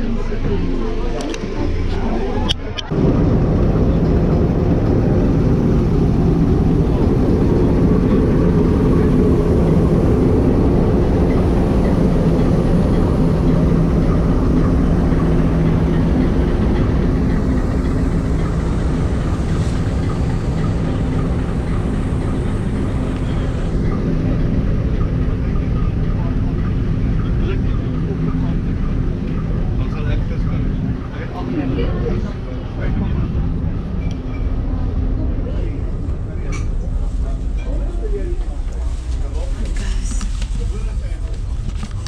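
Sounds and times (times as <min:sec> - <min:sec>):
low engine hum: 0:00.0 - 0:42.0
train rumbling: 0:00.0 - 0:42.0.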